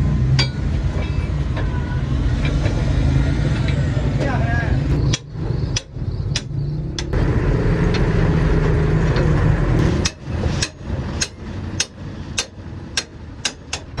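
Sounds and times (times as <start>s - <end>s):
low vehicle engine rumble: 0.0s - 14.0s.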